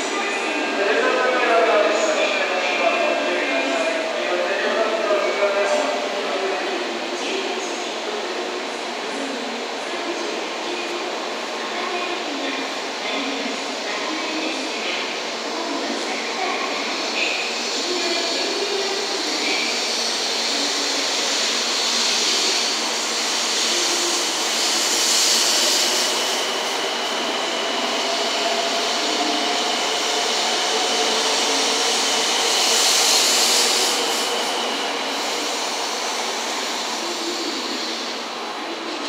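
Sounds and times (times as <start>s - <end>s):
train running noise: 0.0s - 39.0s.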